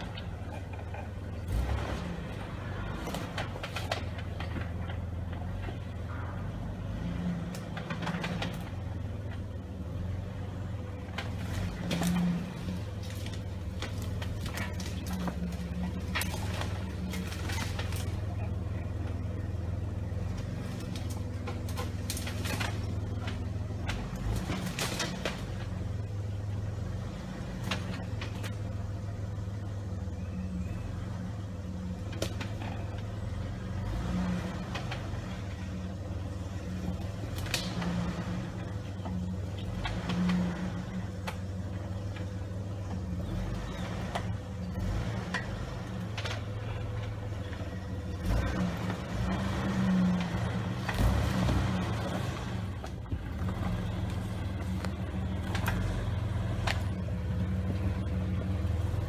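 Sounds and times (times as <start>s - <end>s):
car engine at low revs: 0.0s - 59.0s.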